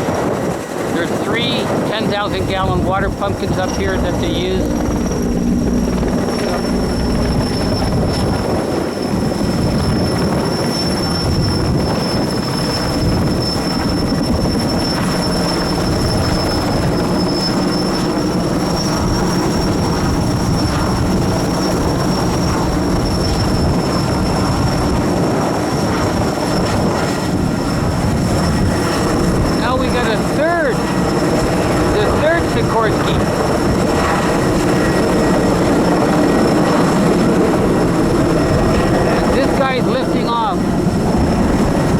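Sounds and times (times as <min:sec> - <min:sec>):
helicopter rotor and turbine whine: 0:00.0 - 0:41.9.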